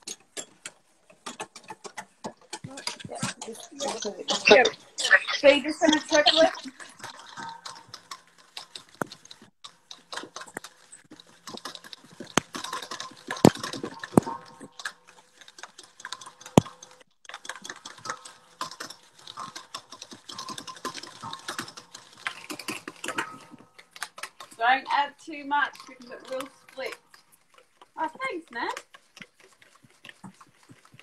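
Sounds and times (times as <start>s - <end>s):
whisk beating in metal bowl: 0.0s - 31.0s.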